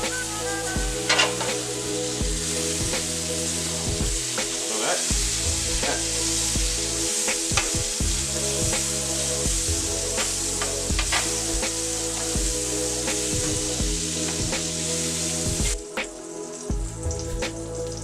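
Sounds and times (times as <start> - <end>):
background music with bass: 0.0 - 18.0
food sizzling in a pan: 0.0 - 18.0.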